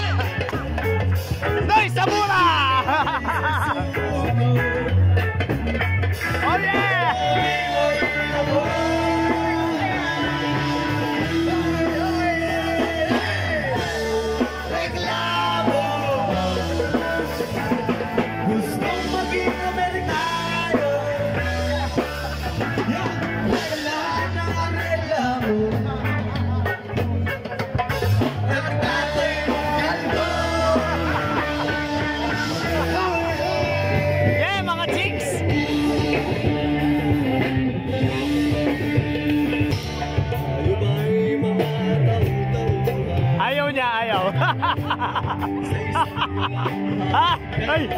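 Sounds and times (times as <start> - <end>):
bass: 0.0 - 47.9
drums: 0.0 - 47.9
person singing: 6.3 - 43.4, 44.2 - 47.9.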